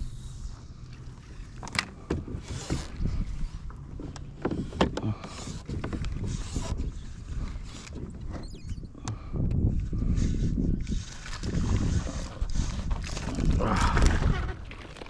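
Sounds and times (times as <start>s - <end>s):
water sloshing against hull: 0.0s - 15.0s.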